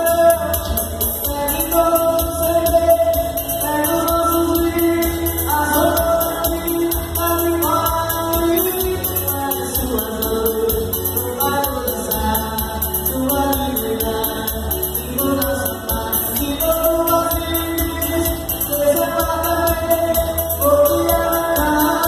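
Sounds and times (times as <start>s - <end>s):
electronic keyboard music: 0.0s - 22.0s.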